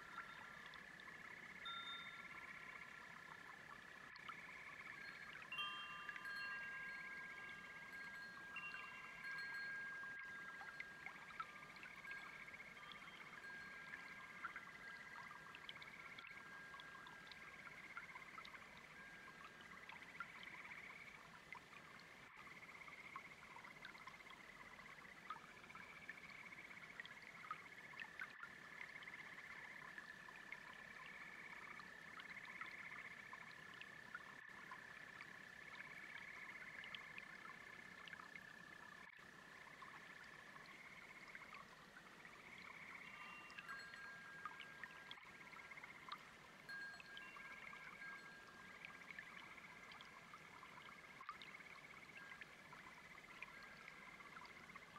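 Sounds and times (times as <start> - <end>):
brook trickling: 0.0 - 54.9
frogs and crickets trilling: 0.0 - 54.9.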